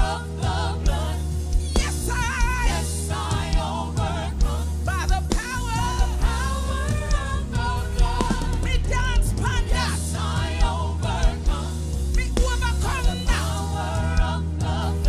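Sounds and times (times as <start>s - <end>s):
bass: 0.0s - 15.0s
drum beat: 0.0s - 15.0s.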